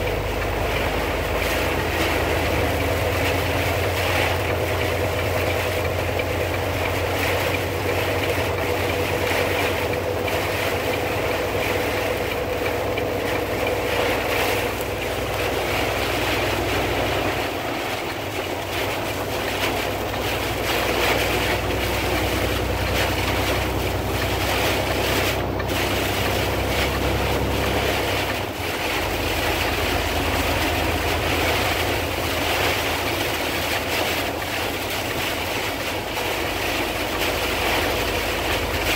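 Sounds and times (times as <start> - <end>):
engine drone: 0.0 - 38.9
rain and wind on car: 0.0 - 38.9
tyres on wet road: 0.0 - 38.9.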